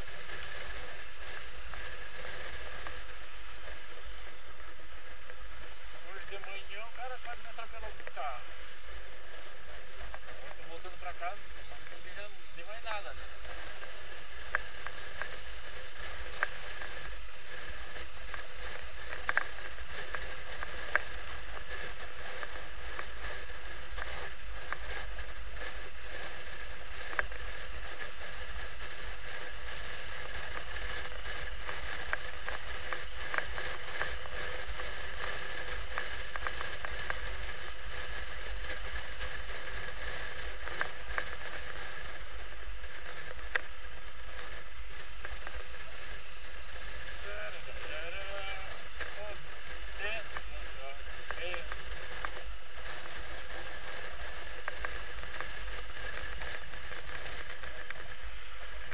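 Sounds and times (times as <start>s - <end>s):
motorcycle engine rumble: 0.0s - 58.9s
wind and road noise: 0.0s - 58.9s.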